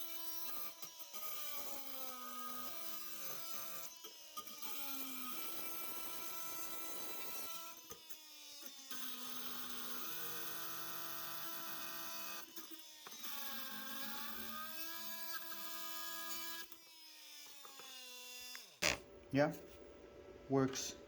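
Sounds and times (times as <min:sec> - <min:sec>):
oscillating multi-tool cutting wood: 0:00.0 - 0:19.0.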